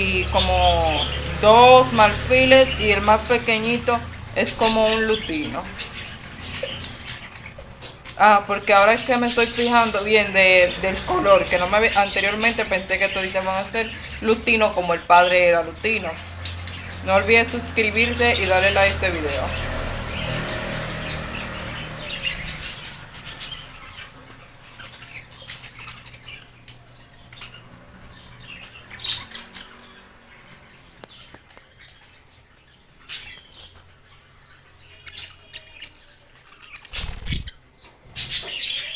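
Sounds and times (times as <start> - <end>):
budgerigar chicks chirping: 0.0 - 38.9.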